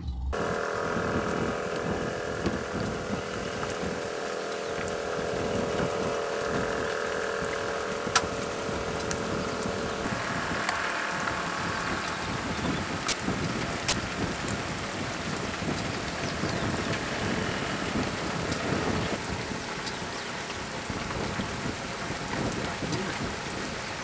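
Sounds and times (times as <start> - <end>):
wind: 0.0 - 24.0
faint steady drone: 0.3 - 22.5
rain: 0.4 - 24.0.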